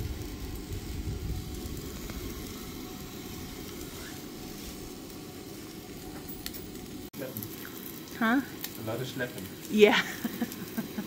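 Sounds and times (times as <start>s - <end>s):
gas stove rushing: 0.0s - 11.0s
sausages sizzling in a skillet: 0.0s - 11.0s.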